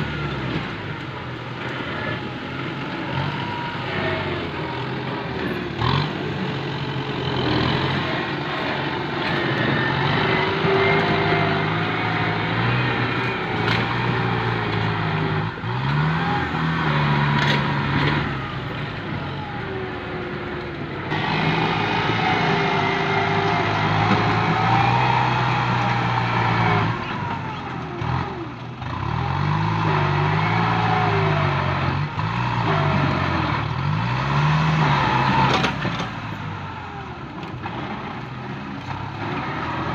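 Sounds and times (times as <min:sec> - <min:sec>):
tractor engine working hard: 0:00.0 - 0:39.9.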